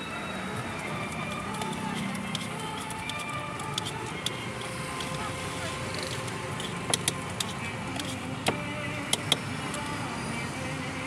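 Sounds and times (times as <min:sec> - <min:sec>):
street noise hum: 0:00.0 - 0:11.0.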